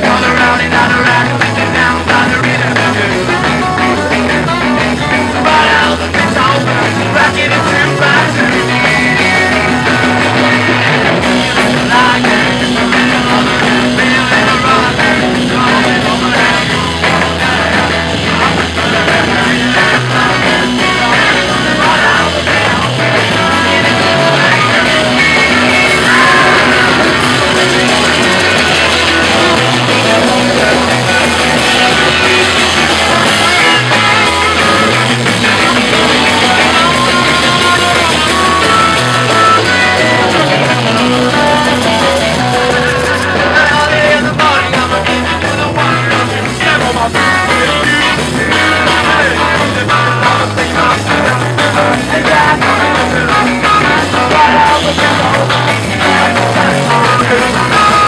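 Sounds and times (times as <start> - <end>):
people singing into microphones: 0.0 - 58.0
rock band playing live: 0.0 - 58.0.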